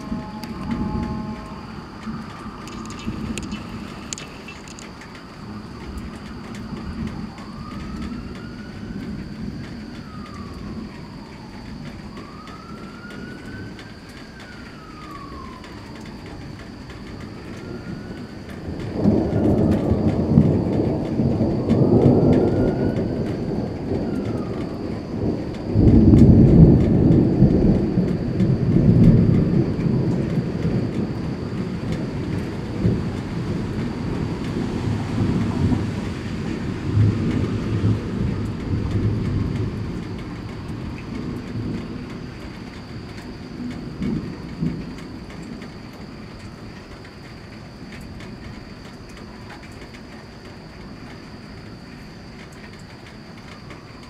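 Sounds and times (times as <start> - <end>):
rain falling: 0.0 - 54.0
thunder rumbling: 0.0 - 54.0.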